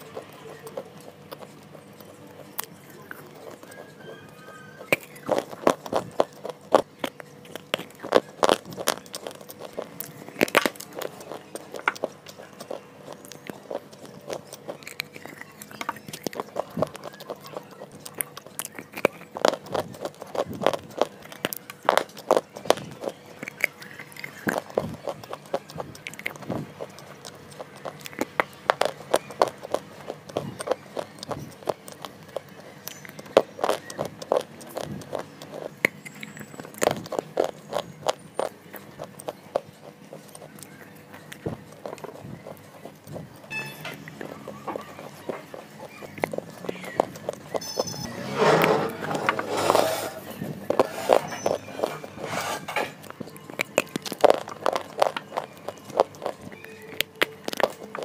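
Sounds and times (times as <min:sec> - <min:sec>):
person crunching and chewing: 0:00.0 - 0:58.0.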